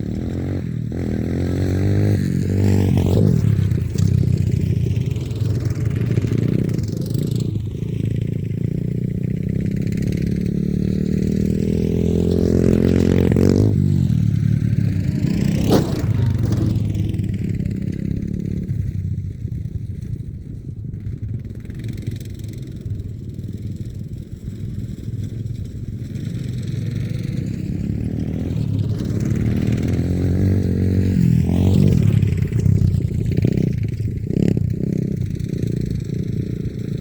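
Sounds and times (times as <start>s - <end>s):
small engine revving: 0.0s - 19.0s, 22.1s - 37.0s.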